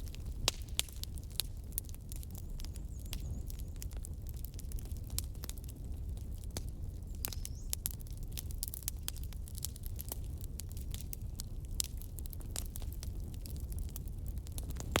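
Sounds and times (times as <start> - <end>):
firewood crackling: 0.0 - 15.0.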